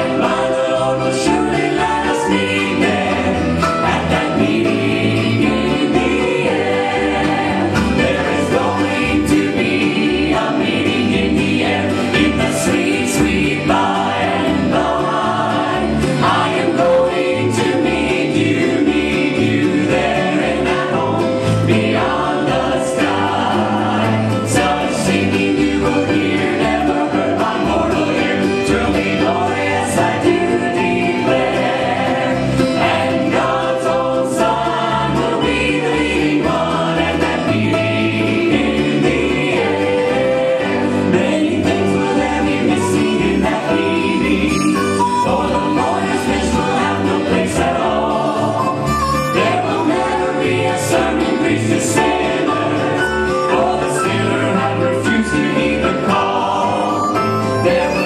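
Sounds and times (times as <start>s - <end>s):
group singing gospel harmony: 0.0s - 58.0s.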